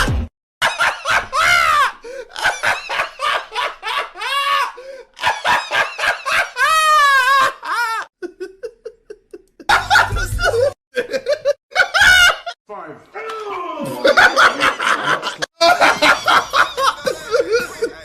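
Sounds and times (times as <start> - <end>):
man's high-pitched laughter: 0.7 - 12.6, 13.8 - 18.0.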